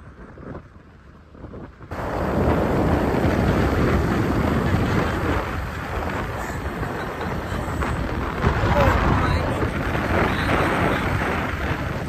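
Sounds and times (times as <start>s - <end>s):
scooter engine and road noise: 0.0s - 12.0s
wind buffeting microphone: 0.0s - 12.0s.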